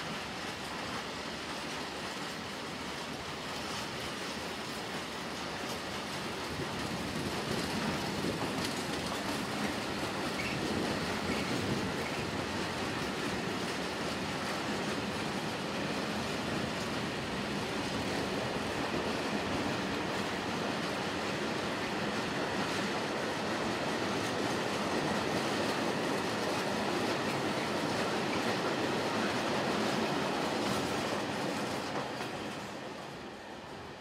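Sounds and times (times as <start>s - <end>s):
train wheels rolling on track: 0.0s - 34.0s.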